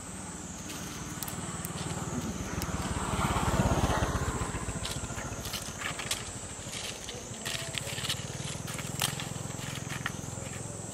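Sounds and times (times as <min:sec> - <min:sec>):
vehicle engine passing: 0:00.0 - 0:10.9.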